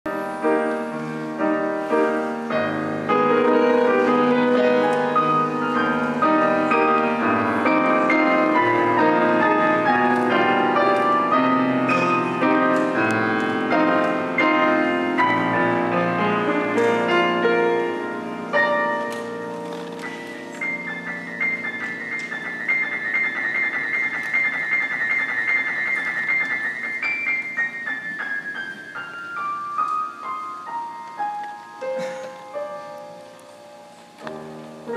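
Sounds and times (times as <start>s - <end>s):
piano melody over chords: 0.1s - 34.9s.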